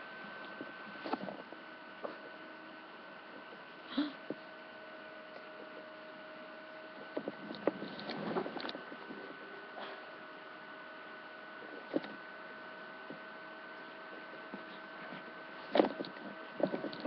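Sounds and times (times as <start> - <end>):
electrical hum and whine: 0.0 - 17.0.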